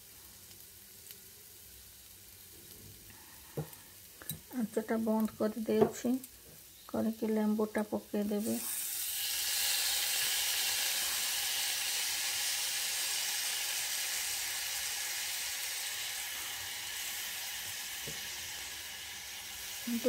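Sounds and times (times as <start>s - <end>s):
spice paste sizzling in a pan: 0.0s - 20.0s.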